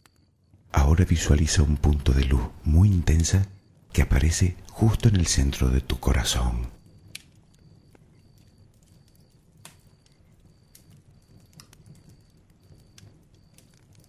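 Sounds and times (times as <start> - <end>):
bonfire crackling: 0.0 - 14.0.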